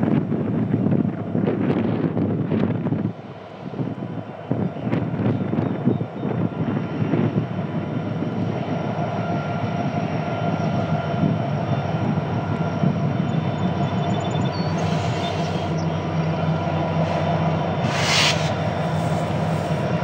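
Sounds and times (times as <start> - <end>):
locomotive engine drone: 0.0 - 20.0
wind on microphone: 0.0 - 20.0.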